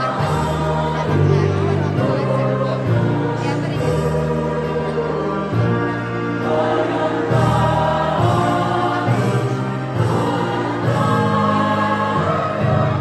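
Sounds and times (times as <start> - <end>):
low bass accompaniment: 0.0 - 13.0
women's choir singing: 0.0 - 13.0.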